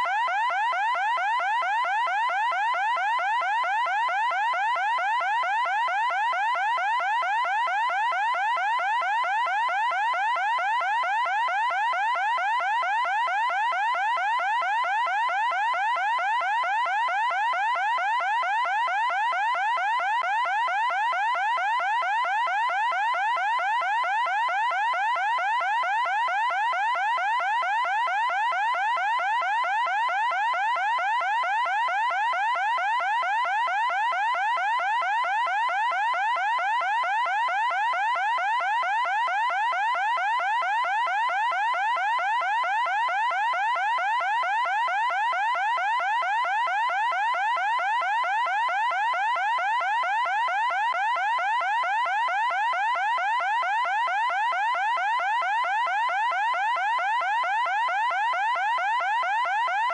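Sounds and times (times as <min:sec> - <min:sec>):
electronic alarm siren: 0:00.0 - 0:59.9.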